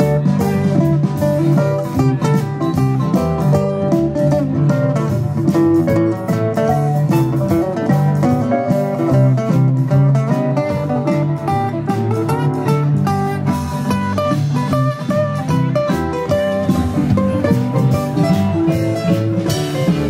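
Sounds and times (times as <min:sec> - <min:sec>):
live folk-blues band: 0:00.0 - 0:20.0
strummed acoustic guitar: 0:00.0 - 0:20.0.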